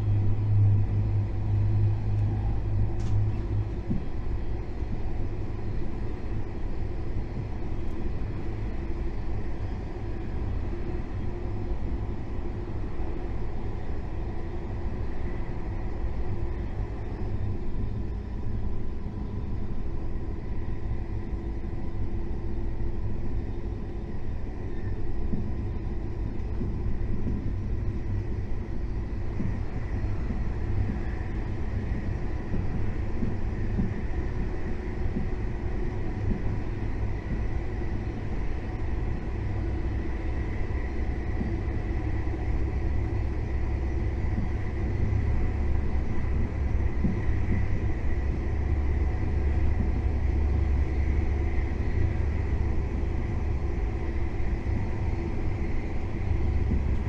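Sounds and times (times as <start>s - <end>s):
faint steady whine: 0.0s - 57.0s
high-speed train rumble: 0.0s - 57.0s.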